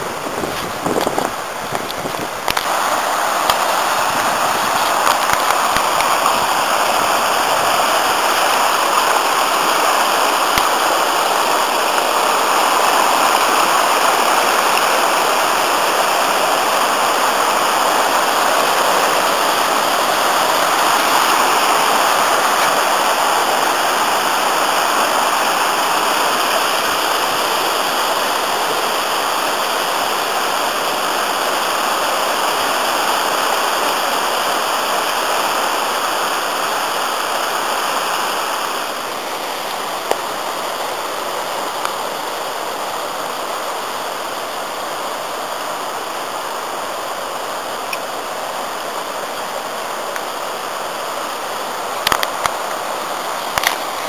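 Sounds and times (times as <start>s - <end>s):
river rushing over rocky rapids: 0.0s - 54.0s.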